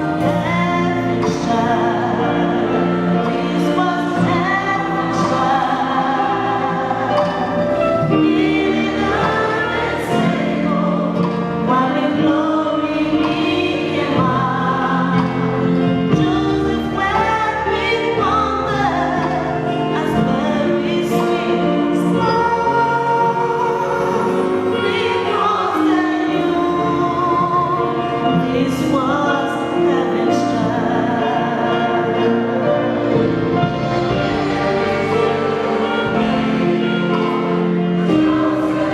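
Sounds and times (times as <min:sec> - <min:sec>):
choir singing: 0:00.0 - 0:38.9
instrumental accompaniment: 0:00.0 - 0:38.9.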